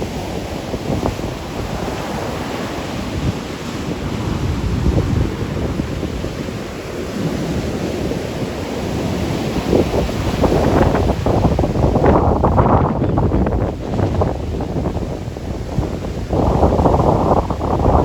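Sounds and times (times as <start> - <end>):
surf breaking on rocks: 0.0 - 18.0
wind buffeting microphone: 0.0 - 18.0.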